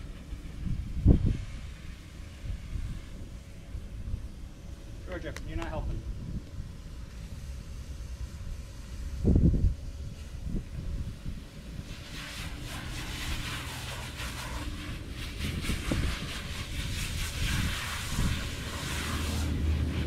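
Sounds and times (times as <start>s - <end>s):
garden hose spray hissing: 0.0s - 20.0s
wind rumble on microphone: 0.0s - 20.0s.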